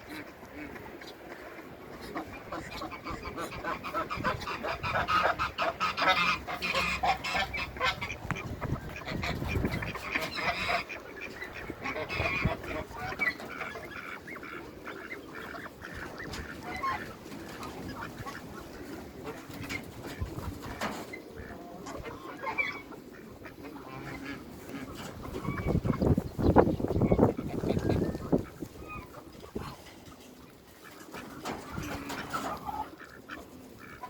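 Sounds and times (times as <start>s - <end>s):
ducks quacking: 0.0s - 34.0s
geese honking: 0.0s - 34.0s.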